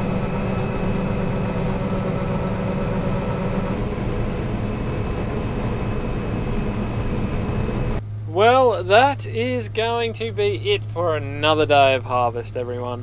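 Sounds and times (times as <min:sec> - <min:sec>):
combine harvester machinery drone: 0:00.0 - 0:13.0.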